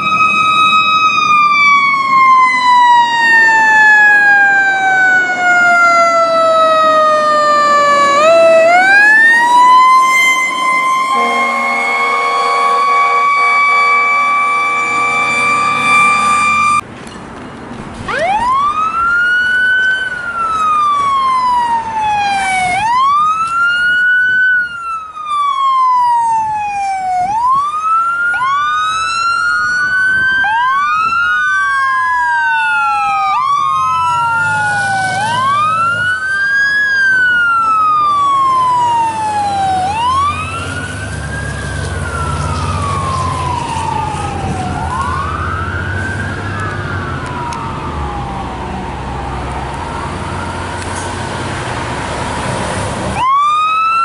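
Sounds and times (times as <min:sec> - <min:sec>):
fire truck sirens wailing: 0:00.0 - 0:16.8, 0:18.0 - 0:54.0
heavy truck engine rumbling: 0:00.0 - 0:23.5, 0:31.5 - 0:53.3.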